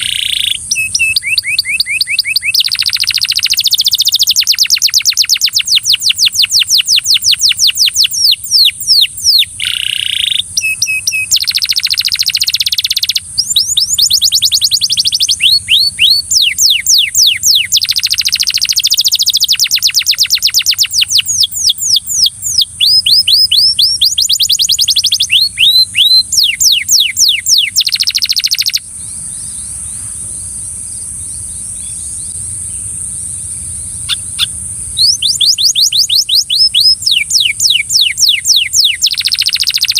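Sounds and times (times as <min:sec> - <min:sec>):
canary singing trills: 0:00.0 - 0:39.9
faint steady hiss: 0:00.0 - 0:39.9.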